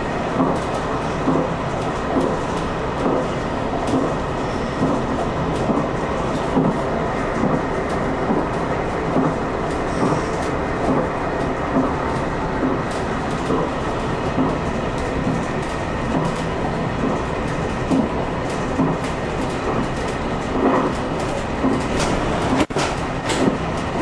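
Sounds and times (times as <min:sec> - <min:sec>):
wheels clacking over rail joints: 0:00.0 - 0:24.0
wheels rumbling on rail: 0:00.0 - 0:24.0.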